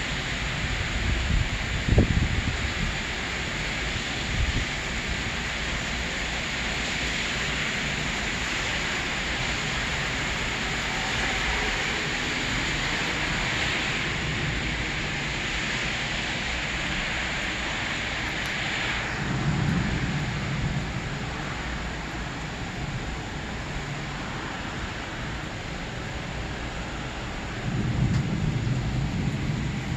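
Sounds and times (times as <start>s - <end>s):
heavy rain hissing: 0.0s - 29.9s.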